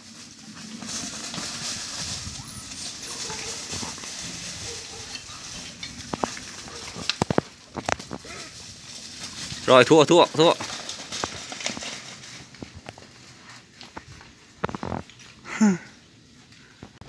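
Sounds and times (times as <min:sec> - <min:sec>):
hoof steps on dry leaves: 0:00.0 - 0:15.3
rustling leaf litter: 0:00.0 - 0:16.8.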